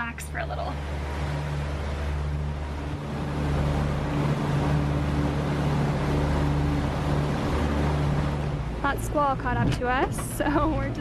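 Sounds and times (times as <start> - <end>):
diesel engine humming: 0.0 - 11.0
wind noise: 1.8 - 11.0.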